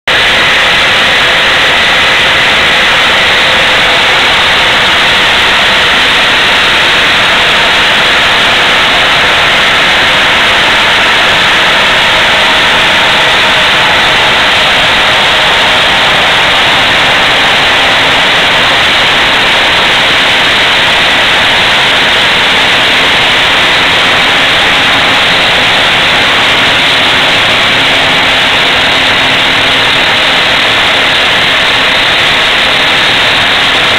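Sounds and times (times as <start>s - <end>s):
steam hissing: 0.1s - 33.9s.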